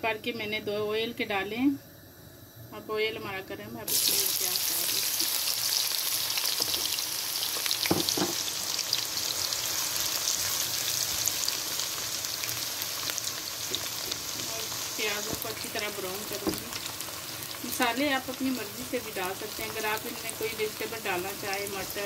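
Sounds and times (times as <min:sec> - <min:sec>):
onions sizzling in oil: 0:02.0 - 0:22.0.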